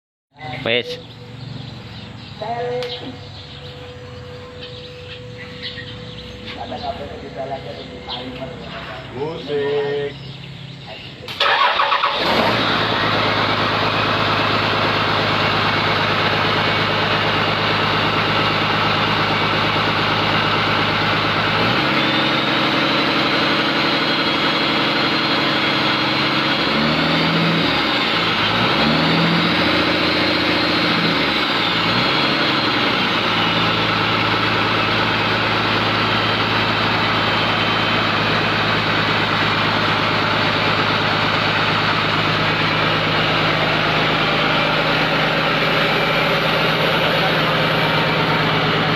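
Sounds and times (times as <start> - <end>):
diesel engine idling and revving: 0.3 - 48.9.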